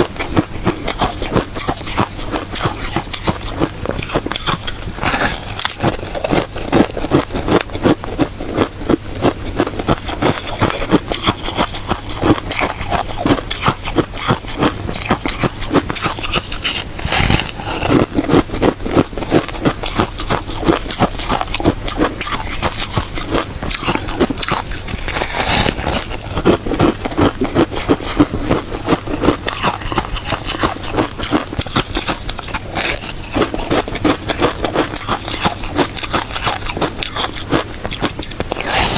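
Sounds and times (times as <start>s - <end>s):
chewing crunchy ice: 0.0s - 38.9s.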